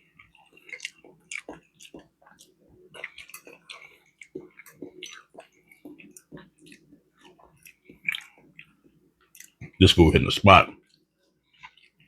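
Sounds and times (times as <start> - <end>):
person chewing food: 0.0 - 9.8, 10.5 - 12.0.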